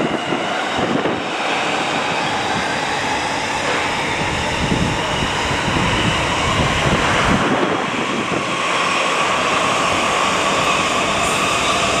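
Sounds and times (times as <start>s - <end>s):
electric trains passing: 0.0s - 12.0s
rumble of train wheels: 0.0s - 12.0s.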